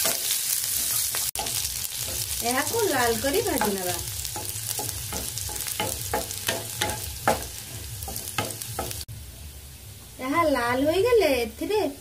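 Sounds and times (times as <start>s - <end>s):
onions sizzling in hot oil: 0.0s - 11.8s.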